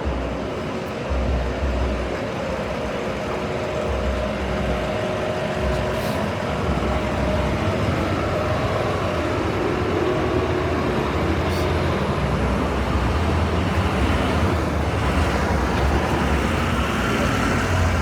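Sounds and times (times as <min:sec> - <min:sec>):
heavy vehicle engine running: 0:00.0 - 0:18.0
street traffic: 0:00.0 - 0:18.0.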